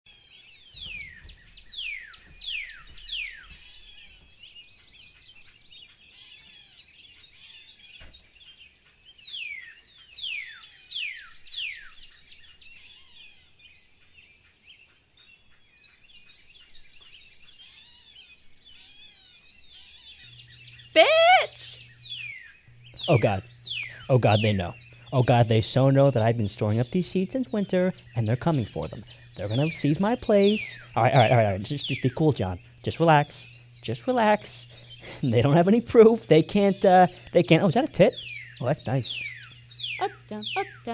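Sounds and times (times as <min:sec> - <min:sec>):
soft overlapping bird chirps: 0:00.1 - 0:40.9.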